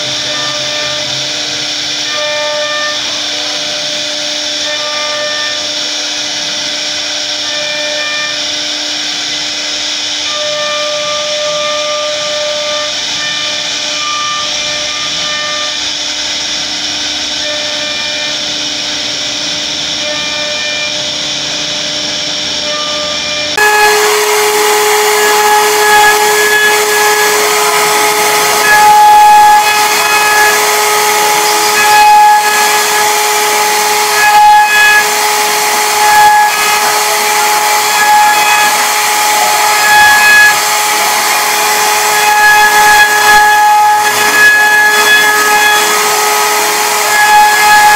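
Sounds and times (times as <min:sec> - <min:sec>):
cnc router spindle whining: 0:00.0 - 0:47.9
hiss of wood cutting: 0:00.0 - 0:47.9.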